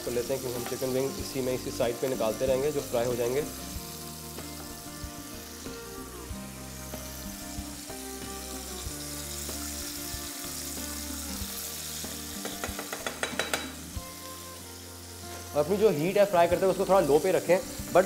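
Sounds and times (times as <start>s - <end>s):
chicken deep-frying in oil: 0.0s - 18.0s
soft background music: 0.0s - 18.0s.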